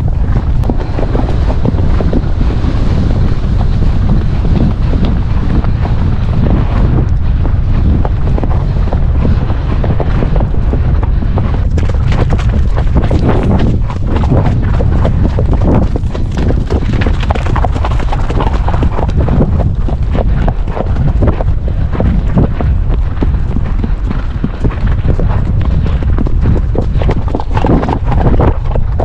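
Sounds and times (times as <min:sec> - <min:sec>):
horse hoofbeats cantering: 0:00.0 - 0:29.0
wind buffeting microphone: 0:00.0 - 0:29.0.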